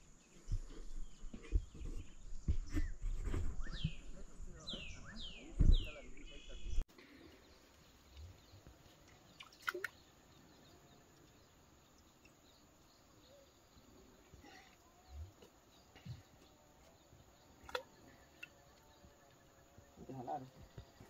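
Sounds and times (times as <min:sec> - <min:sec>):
faint river ambience: 0:00.0 - 0:21.0.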